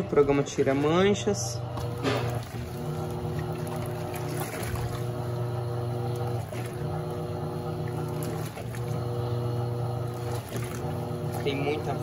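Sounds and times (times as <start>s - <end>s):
washing machine motor humming: 0.0s - 12.0s
water churning in tub: 0.0s - 12.0s.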